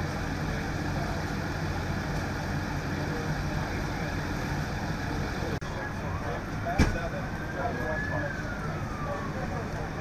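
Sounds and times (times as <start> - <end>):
vehicle engines idling: 0.0 - 10.0.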